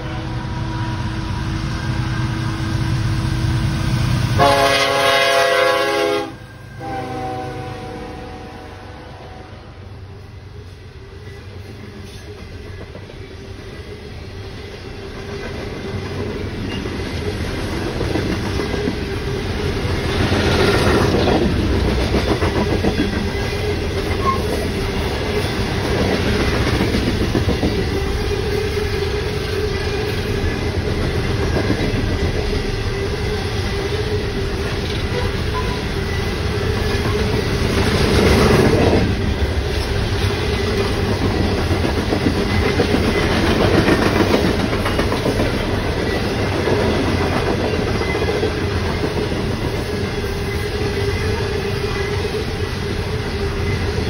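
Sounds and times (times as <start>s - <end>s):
freight train rumbling: 0.0s - 54.0s.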